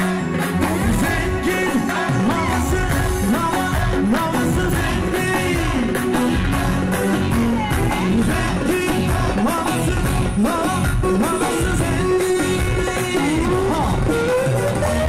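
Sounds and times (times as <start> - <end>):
steady drum beat: 0.0 - 14.8
person singing: 0.0 - 15.0
sliding lead melody: 0.0 - 15.0.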